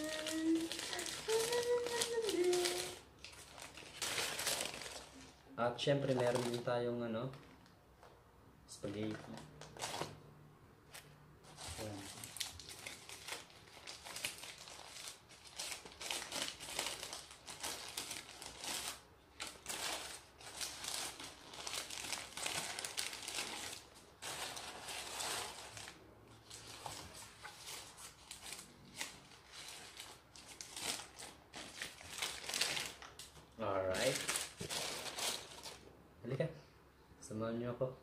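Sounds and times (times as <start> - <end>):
plastic wrappers crinkling: 0.0 - 7.8, 8.9 - 10.2, 11.4 - 35.9.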